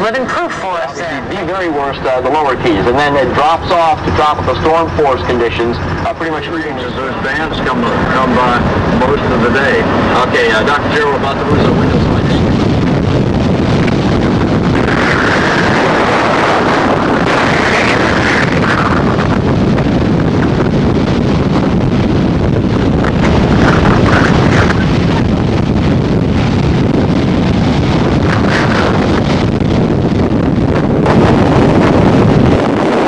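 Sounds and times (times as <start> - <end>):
gusty wind buffeting microphone: 0.0 - 33.0
surf breaking on beach: 0.0 - 33.0.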